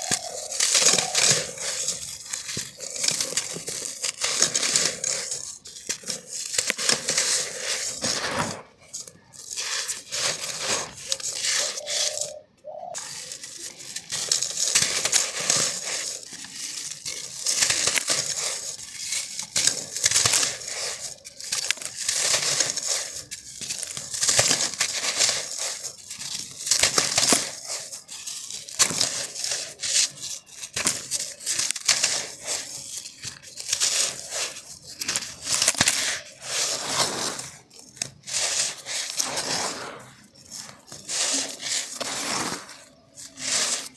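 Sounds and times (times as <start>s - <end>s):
sand crunching by hand: 0.0s - 12.4s, 13.0s - 43.9s.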